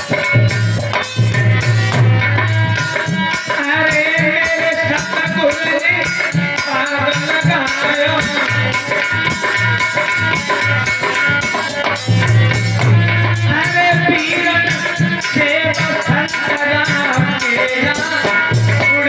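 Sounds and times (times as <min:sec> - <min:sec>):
drum beat: 0:00.0 - 0:19.0
rattling percussion: 0:00.0 - 0:19.0.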